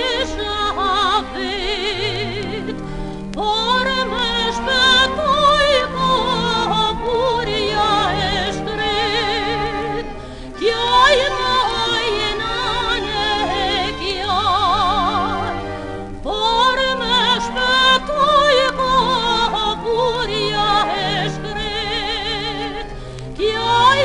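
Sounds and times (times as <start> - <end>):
instrumental accompaniment: 0.0 - 24.0
soprano singing operatically: 0.0 - 24.0.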